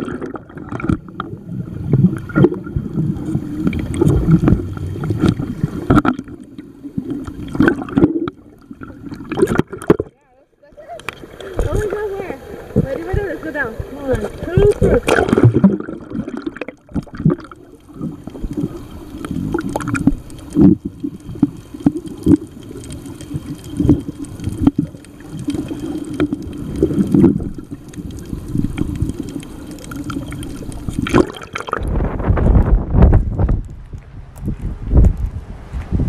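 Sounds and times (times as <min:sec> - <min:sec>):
underwater sloshing and gurgling: 0:00.0 - 0:36.0.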